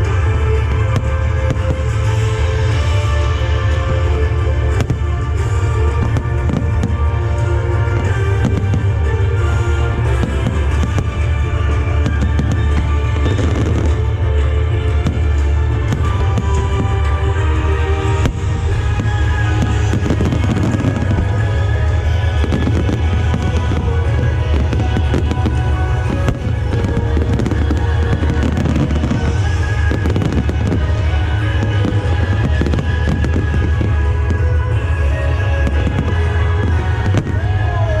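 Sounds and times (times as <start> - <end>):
fireworks bursting and crackling: 0.0 - 38.0
loud music: 0.0 - 38.0.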